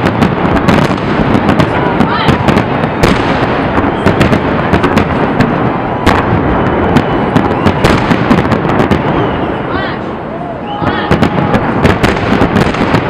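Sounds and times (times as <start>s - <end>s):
fireworks bursting and crackling: 0.0s - 13.0s
sharp fireworks bangs: 0.0s - 13.0s.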